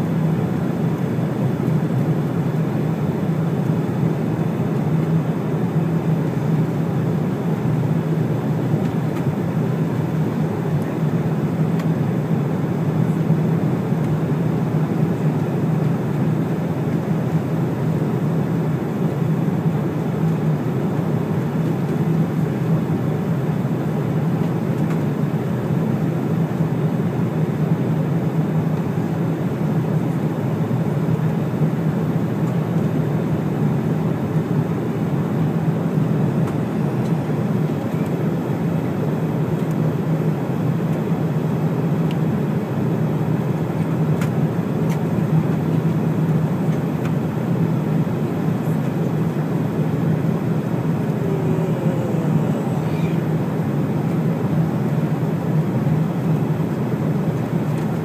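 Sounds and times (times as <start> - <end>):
airliner cabin engine noise: 0.0 - 58.0.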